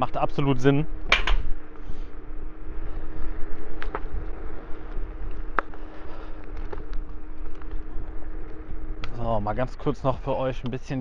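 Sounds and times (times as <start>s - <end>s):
electric motor whine: 0.0s - 11.0s
wheels rumbling on rough track: 0.0s - 11.0s
wind: 0.0s - 11.0s.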